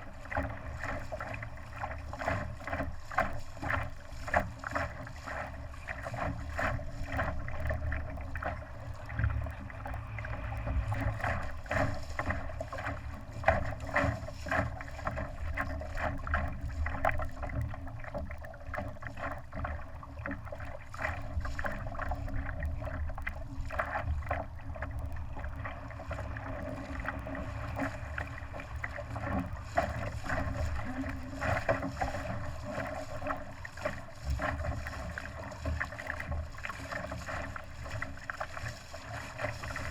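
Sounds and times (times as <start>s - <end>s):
water splashing against boat hull: 0.0s - 39.9s
wind rumbling on microphone: 0.0s - 39.9s.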